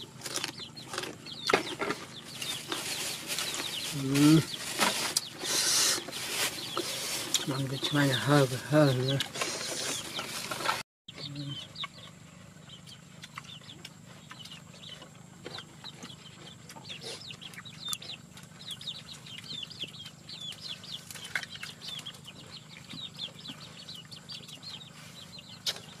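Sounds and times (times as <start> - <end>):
chicks cheeping: 0.0 - 26.0.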